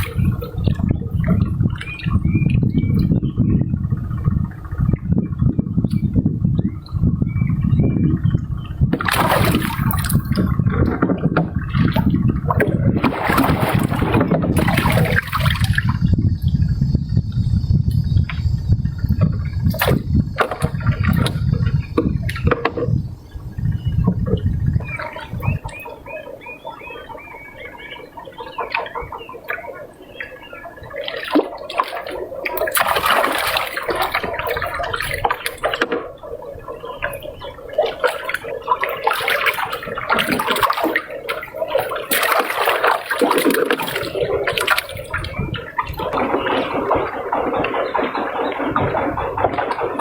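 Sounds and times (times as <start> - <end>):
water splashing and sloshing: 0.0 - 50.0.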